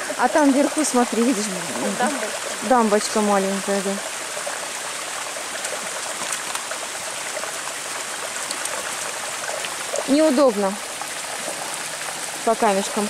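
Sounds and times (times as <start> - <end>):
brook trickling over stones: 0.0 - 13.0.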